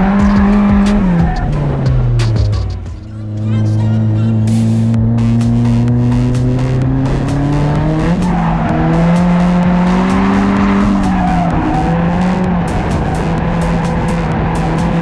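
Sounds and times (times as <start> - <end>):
car engine revving: 0.0 - 15.0
tires squealing: 0.0 - 15.0.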